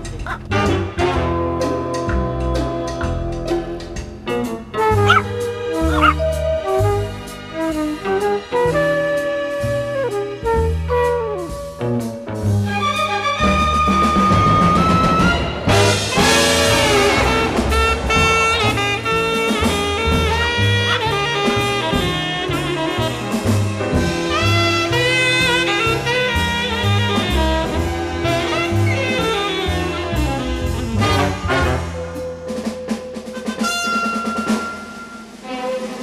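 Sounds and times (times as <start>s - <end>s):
jazz brass melody with bass: 0.0s - 36.0s.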